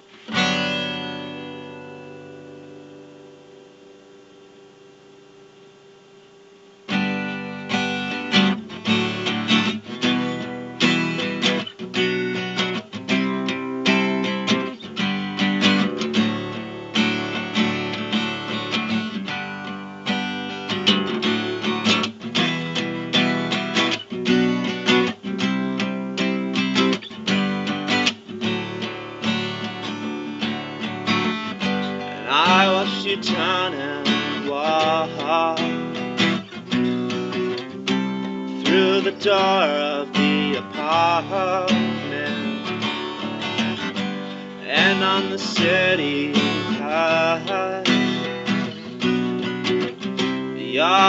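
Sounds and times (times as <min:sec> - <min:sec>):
acoustic guitar strumming: 0:00.0 - 0:51.0.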